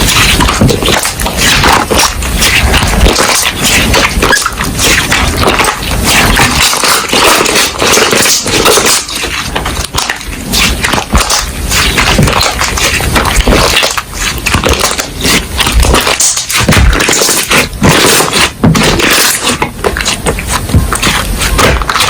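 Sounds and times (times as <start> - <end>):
slime squishing wet crackles: 0.0 - 22.0.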